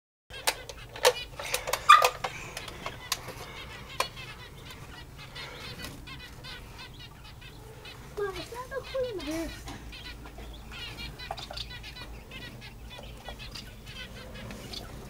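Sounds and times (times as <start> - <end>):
finches chirping: 0.3 - 15.0.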